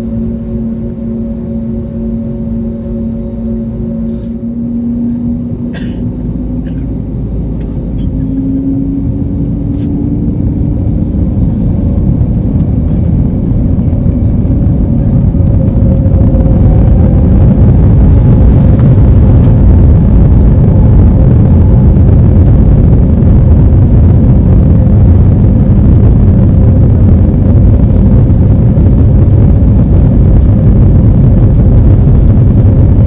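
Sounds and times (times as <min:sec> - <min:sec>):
jet engines spooling up: 0:00.0 - 0:33.0.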